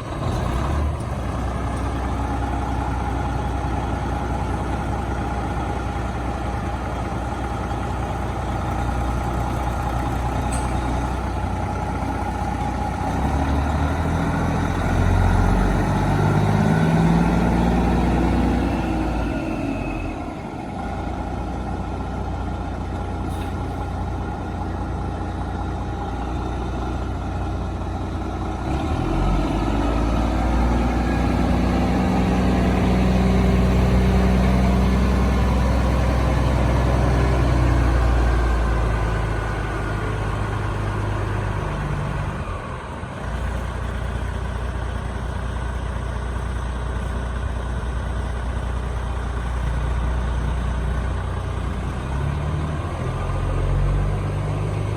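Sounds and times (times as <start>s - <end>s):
diesel truck engine idling and revving: 0.0s - 54.9s.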